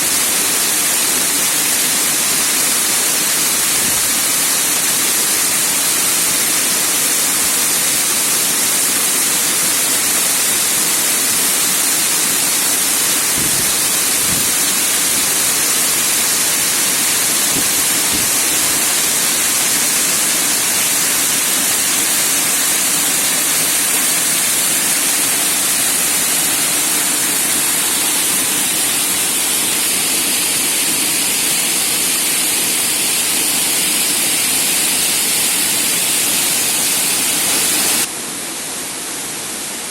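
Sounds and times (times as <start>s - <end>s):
waterfall rushing: 0.0s - 38.4s.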